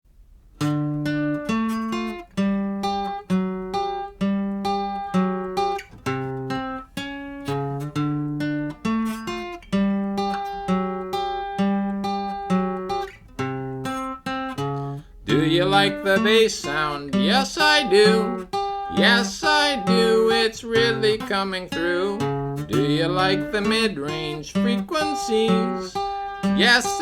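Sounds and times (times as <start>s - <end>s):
acoustic guitar strumming: 0.5s - 27.0s.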